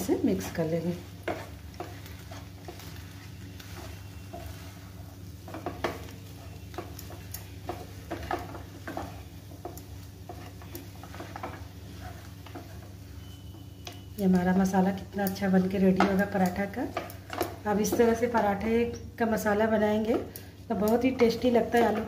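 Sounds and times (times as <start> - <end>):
wooden spatula scraping a pan: 0.0 - 20.4, 21.0 - 22.0.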